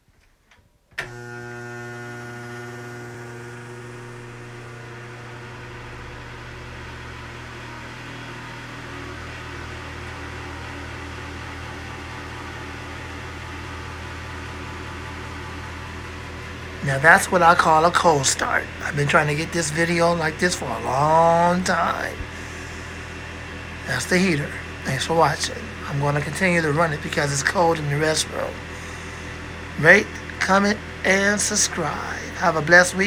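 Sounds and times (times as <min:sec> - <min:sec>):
fan electric hum: 0:00.5 - 0:33.0
deeper hum: 0:01.1 - 0:33.0.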